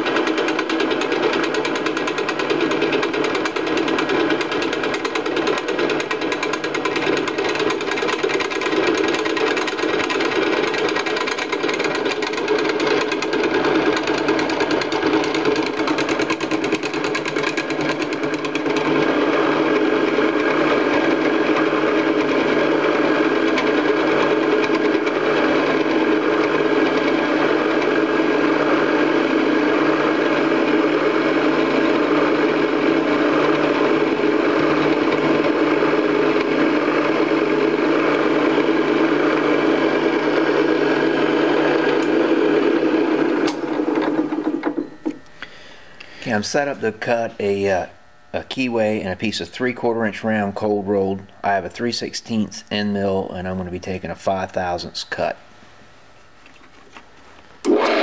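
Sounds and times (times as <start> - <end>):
drill press machine hum: 0.0 - 58.0.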